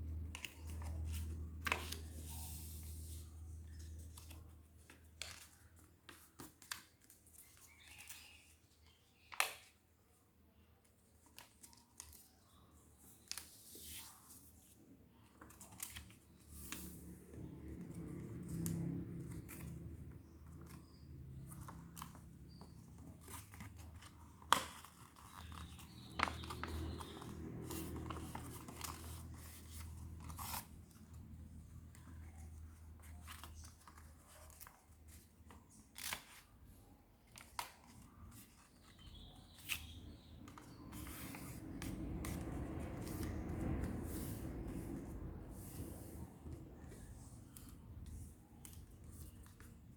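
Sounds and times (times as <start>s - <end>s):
paper crinkling and creasing: 0.3s - 9.7s, 11.1s - 49.9s.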